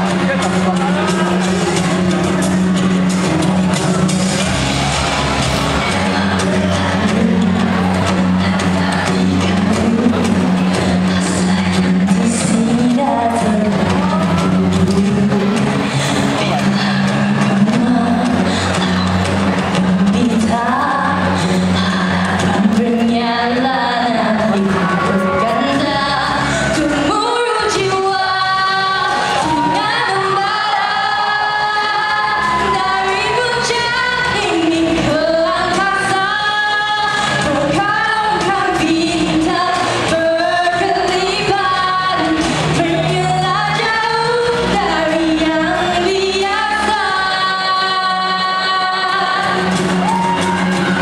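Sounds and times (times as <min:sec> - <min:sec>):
pop backing music: 0:00.0 - 0:51.0
woman singing into microphone: 0:05.8 - 0:51.0.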